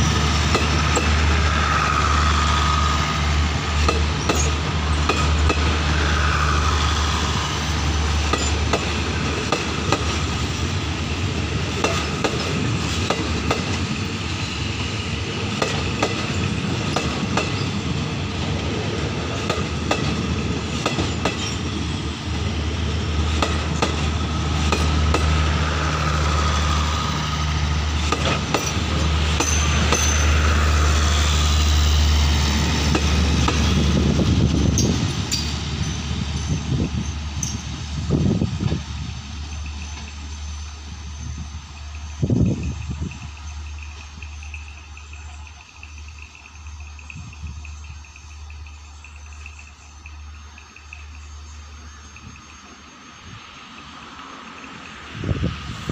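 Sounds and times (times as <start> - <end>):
train wheels clattering over rail joints: 0.0 - 51.3.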